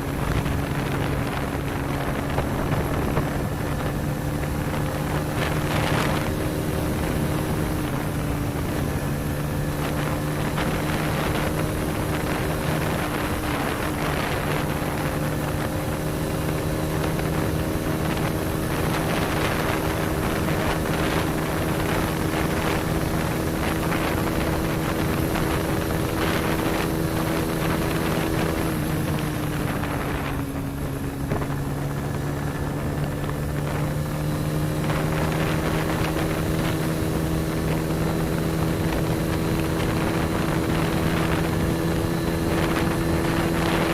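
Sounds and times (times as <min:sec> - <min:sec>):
motorcycle engine cruising: 0:00.0 - 0:43.9
wind buffeting microphone: 0:00.0 - 0:43.9.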